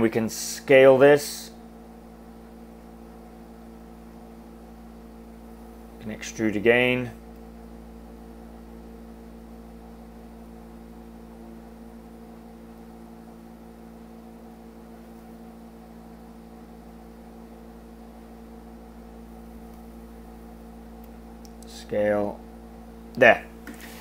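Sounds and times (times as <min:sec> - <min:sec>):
low electrical hum with hiss: 0:00.0 - 0:24.0.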